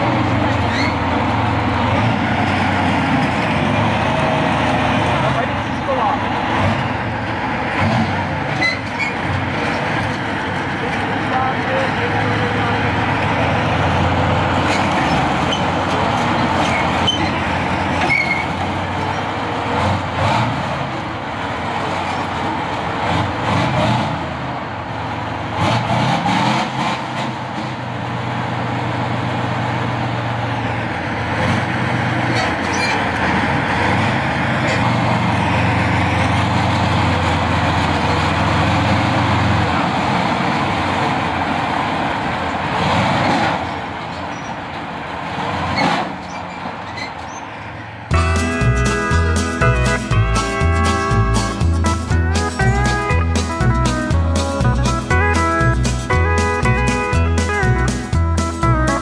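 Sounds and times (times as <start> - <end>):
tank diesel engine running: 0.0 - 59.0.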